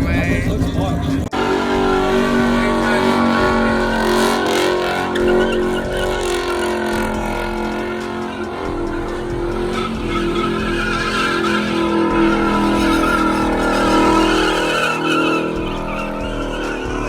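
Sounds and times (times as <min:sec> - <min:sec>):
car engine at high revs: 0:00.0 - 0:17.0
tires spinning and squealing: 0:00.0 - 0:17.0.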